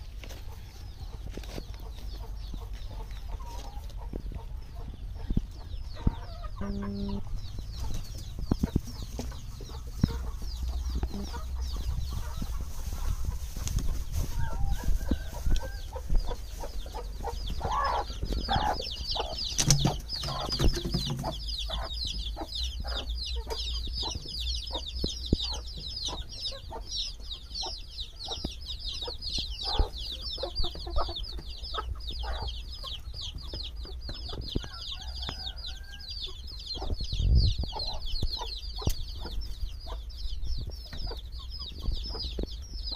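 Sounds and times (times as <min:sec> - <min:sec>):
chicks peeping: 0:00.0 - 0:42.9
hens clucking: 0:00.0 - 0:42.9.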